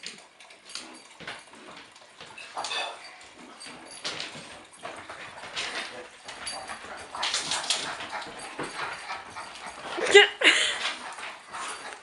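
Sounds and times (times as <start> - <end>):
animals scuffling: 0.0 - 12.0.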